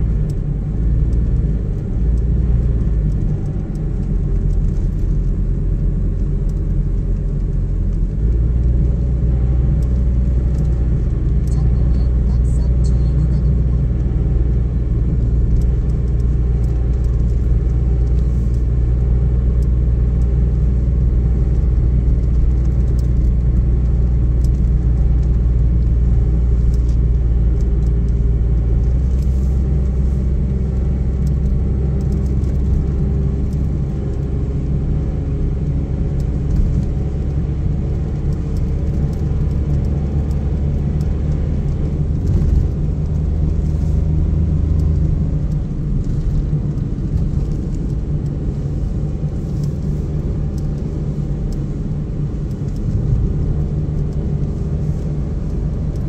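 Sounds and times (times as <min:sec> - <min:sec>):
engine and road noise drone: 0:00.0 - 0:56.0.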